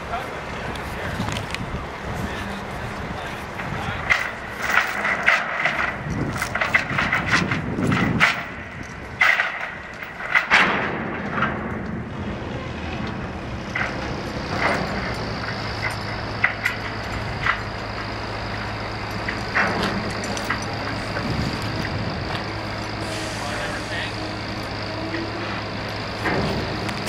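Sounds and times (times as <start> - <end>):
engine running steadily: 0.0 - 27.0
knocks and clanks on steel deck: 3.5 - 23.1, 24.2 - 27.0.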